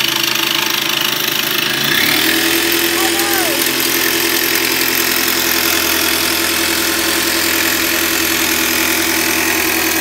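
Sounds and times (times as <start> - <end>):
jigsaw cutting plywood: 1.2 - 10.0.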